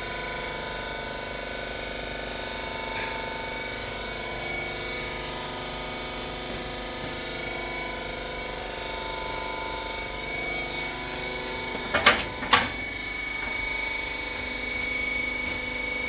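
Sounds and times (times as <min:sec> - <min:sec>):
high machine whine: 0:00.0 - 0:16.0
baler machine humming: 0:02.2 - 0:16.0.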